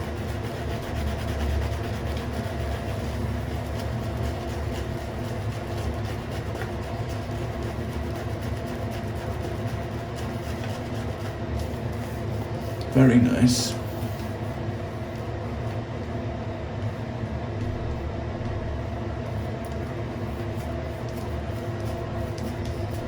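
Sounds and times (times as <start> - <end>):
shaving brush swirling on soap: 0.0 - 15.3, 19.3 - 23.0
low room hum: 0.0 - 23.0.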